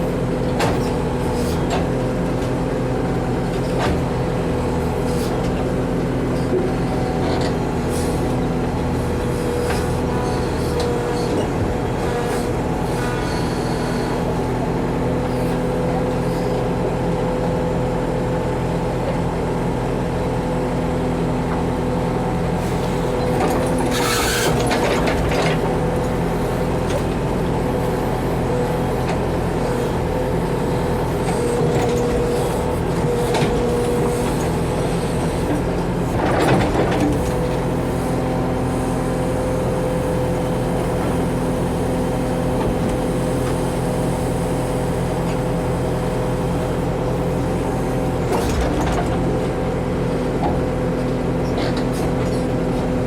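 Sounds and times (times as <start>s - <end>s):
backhoe diesel engine digging: 0.0s - 53.0s.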